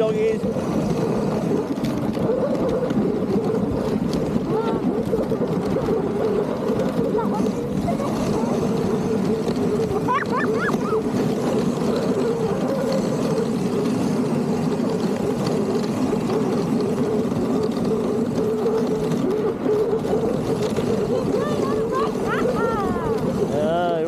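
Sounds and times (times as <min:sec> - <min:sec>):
sled runners scraping snow: 0:00.0 - 0:24.0.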